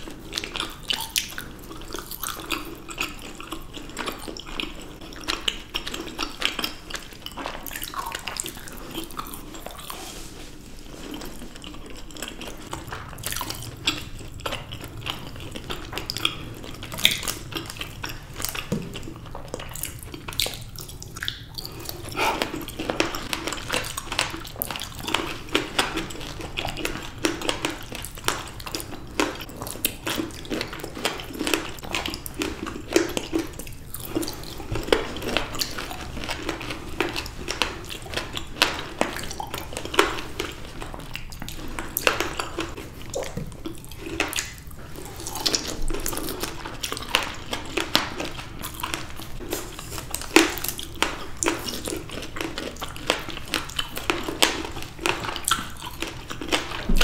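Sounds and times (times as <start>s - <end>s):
chewing juicy fruit: 0.0s - 57.0s.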